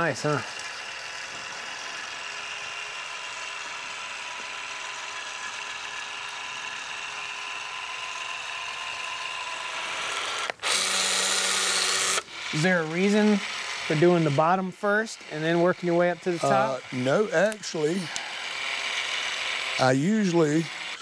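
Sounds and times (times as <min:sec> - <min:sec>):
caulk gun motor whine: 0:00.0 - 0:21.0.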